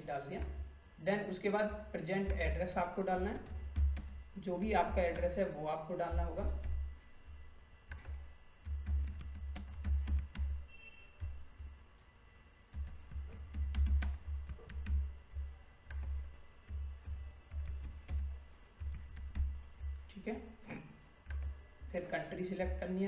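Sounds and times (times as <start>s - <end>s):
computer keyboard typing: 1.6s - 6.8s, 7.9s - 12.1s, 12.7s - 20.2s, 21.2s - 23.0s.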